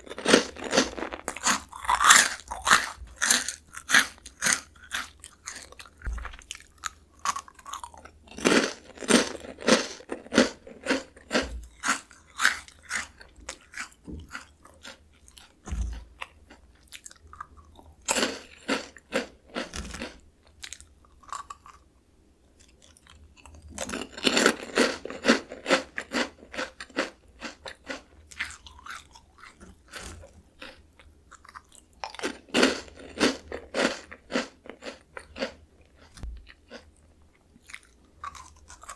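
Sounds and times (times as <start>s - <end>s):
crunching and chewing snack: 0.0s - 38.9s.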